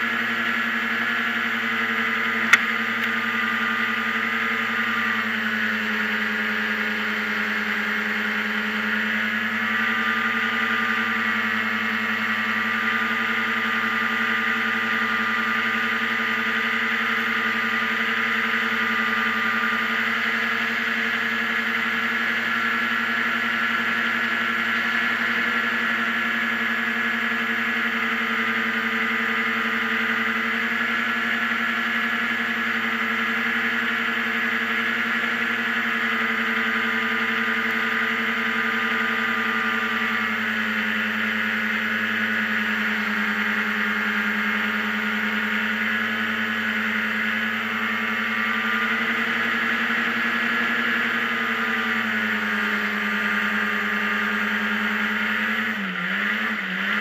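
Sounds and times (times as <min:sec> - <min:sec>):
hovercraft engine and fan running: 0:00.0 - 0:57.0.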